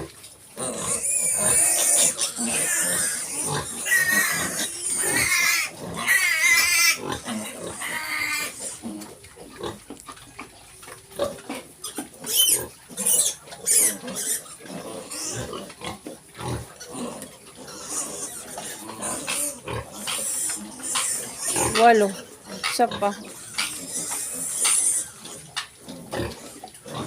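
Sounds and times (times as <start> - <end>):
piglet grunts and squeaks: 0.6 - 9.8, 11.0 - 27.0
piglets squealing: 0.6 - 9.8, 11.1 - 27.0.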